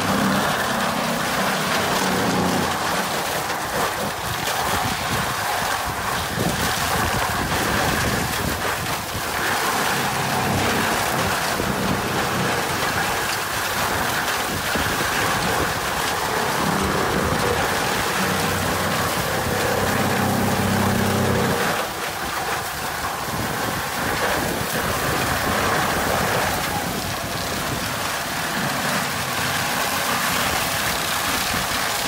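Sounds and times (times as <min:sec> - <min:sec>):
shredder chewing branches: 0:00.0 - 0:32.0
tractor engine: 0:00.0 - 0:32.0.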